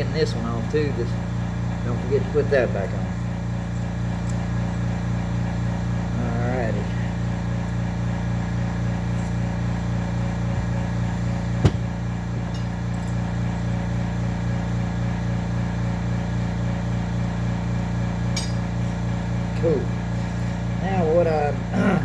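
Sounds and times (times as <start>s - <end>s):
pulsing machine hum: 0.0s - 22.0s.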